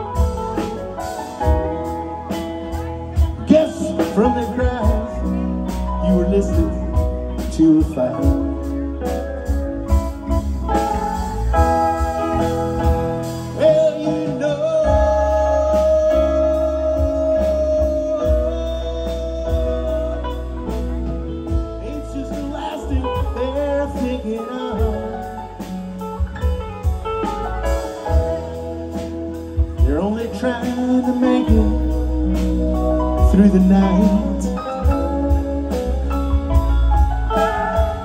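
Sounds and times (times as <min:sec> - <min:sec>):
live band playing: 0:00.0 - 0:38.0
steel guitar sliding notes: 0:00.0 - 0:38.0.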